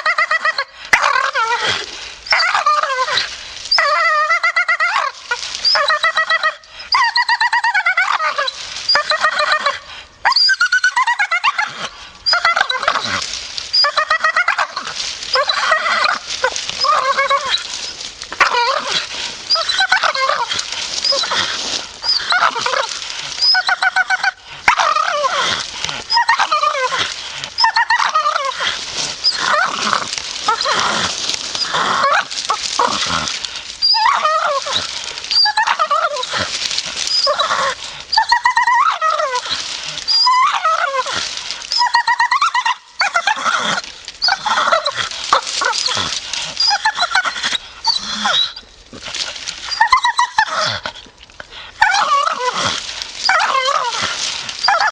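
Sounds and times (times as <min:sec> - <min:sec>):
dog whining and yipping: 0:00.0 - 0:48.7, 0:49.6 - 0:50.8, 0:51.8 - 0:54.9.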